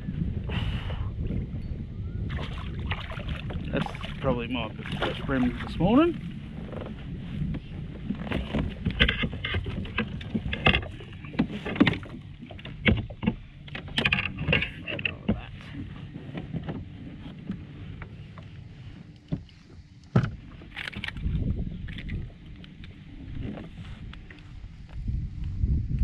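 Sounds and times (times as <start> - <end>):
knocks and rattles on a kayak: 0.0 - 26.0.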